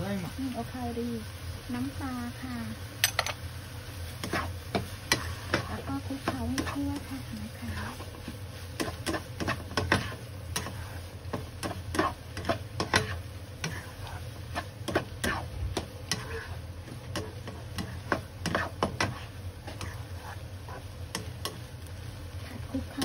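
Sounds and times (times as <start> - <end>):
spatula scraping a wok: 3.1 - 23.0.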